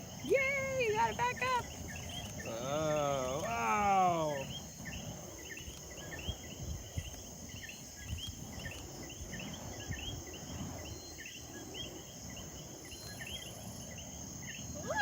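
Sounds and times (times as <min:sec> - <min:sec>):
high-pitched insect hum: 0:00.0 - 0:15.0.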